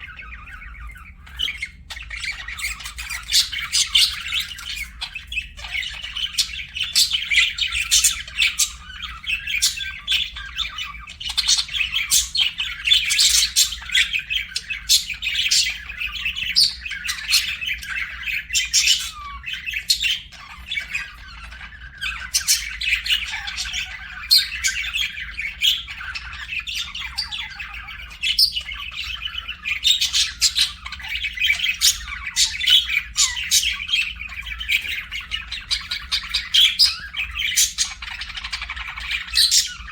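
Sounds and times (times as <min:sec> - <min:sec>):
budgerigar chirping and squawking: 0:00.0 - 0:39.9.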